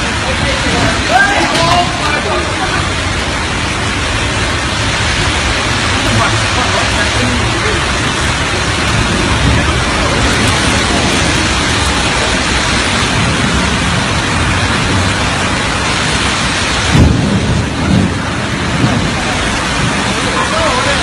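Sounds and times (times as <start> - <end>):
driving rain: 0.0 - 21.0
storm wind: 0.0 - 21.0.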